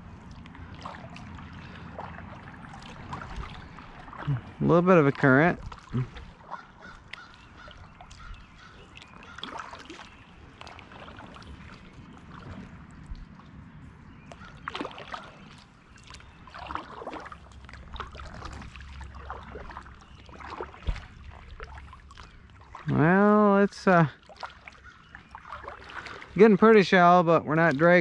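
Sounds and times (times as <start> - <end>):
kayak paddle splashing: 0.0 - 28.0
water trickling past hull: 0.0 - 28.0.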